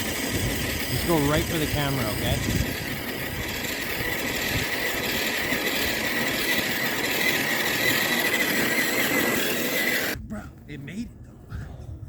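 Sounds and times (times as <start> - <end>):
rc truck motor whine: 0.0 - 10.2.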